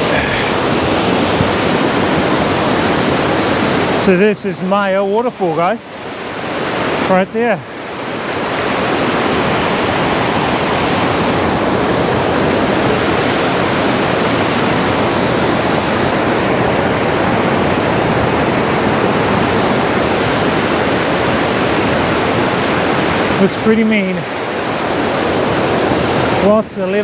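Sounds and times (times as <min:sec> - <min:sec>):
waterfall roaring: 0:00.0 - 0:27.0.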